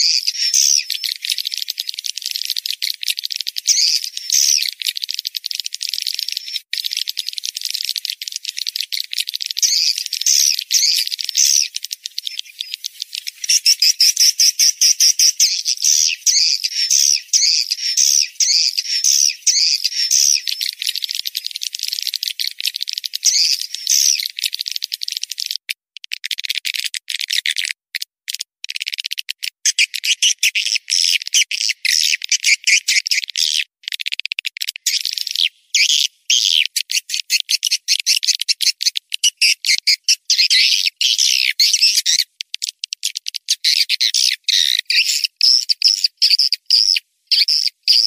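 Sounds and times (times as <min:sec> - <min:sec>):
high bird chirps: 0:00.0 - 0:25.6, 0:29.6 - 0:48.0.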